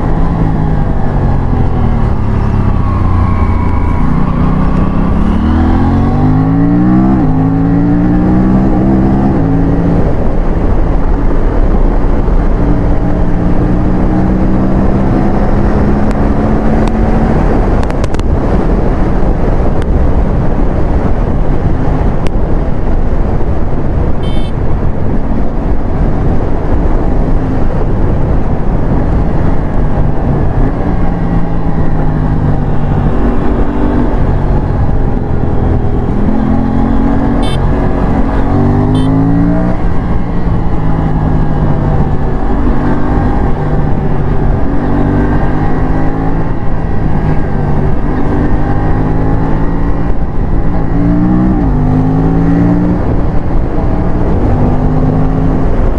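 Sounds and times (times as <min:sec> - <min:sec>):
motorcycle engine revving: 0:00.0 - 0:19.8, 0:24.2 - 0:55.9
wind rush on microphone: 0:00.0 - 0:55.9.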